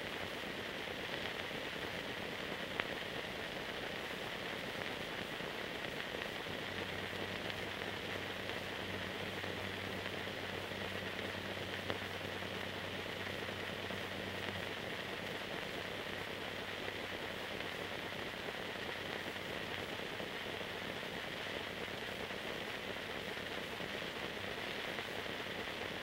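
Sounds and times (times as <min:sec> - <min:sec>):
film hiss and crackle: 0:00.0 - 0:26.0.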